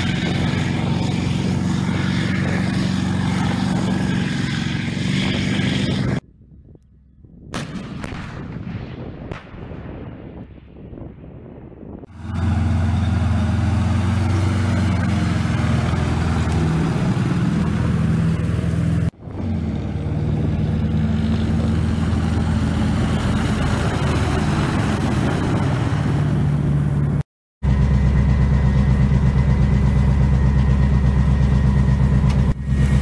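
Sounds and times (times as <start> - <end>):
diesel engine running loudly: 0.0 - 6.2, 12.1 - 33.0.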